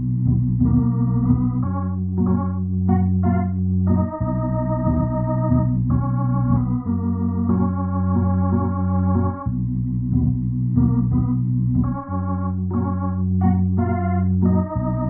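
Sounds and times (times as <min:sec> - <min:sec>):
organ-like keyboard chords: 0:00.0 - 0:15.0
steady bass line: 0:00.0 - 0:15.0.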